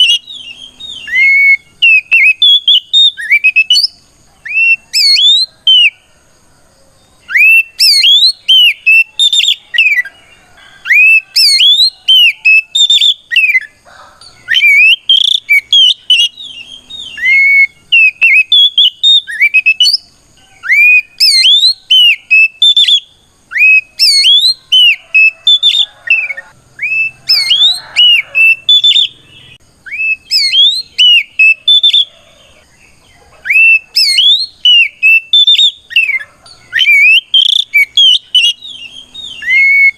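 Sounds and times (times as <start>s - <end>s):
bird singing whistled phrases: 0.0s - 6.0s, 7.2s - 10.2s, 10.8s - 13.8s, 14.4s - 32.2s, 33.4s - 39.9s.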